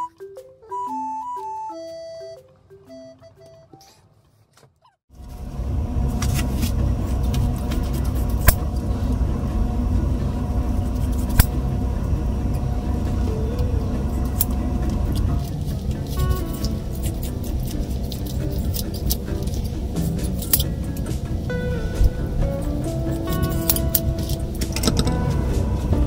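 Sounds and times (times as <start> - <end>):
low rumbling hum: 5.1 - 26.0.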